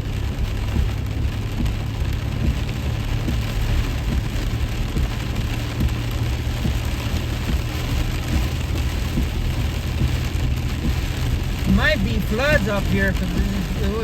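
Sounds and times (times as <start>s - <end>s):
rain on a truck: 0.0s - 14.0s
truck engine and road noise: 0.0s - 14.0s.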